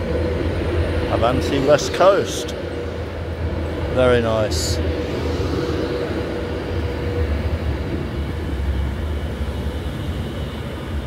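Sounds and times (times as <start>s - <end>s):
faint whine: 0.0s - 11.0s
train carriages rumbling past: 0.0s - 11.0s.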